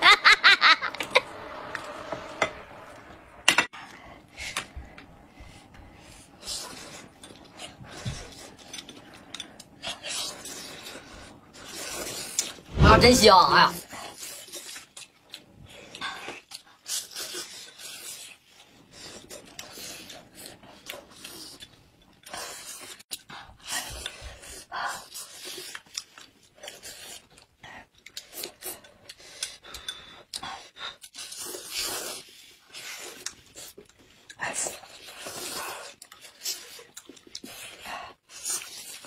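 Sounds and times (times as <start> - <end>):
people chewing: 3.7 - 12.7, 13.9 - 39.0.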